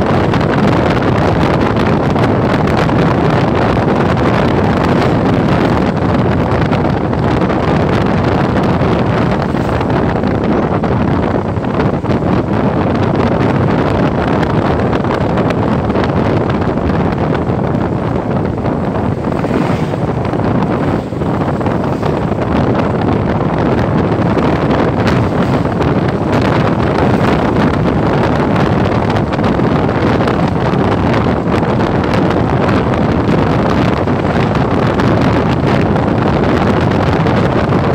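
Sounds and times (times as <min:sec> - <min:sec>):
wind rushing over microphone: 0:00.0 - 0:37.9.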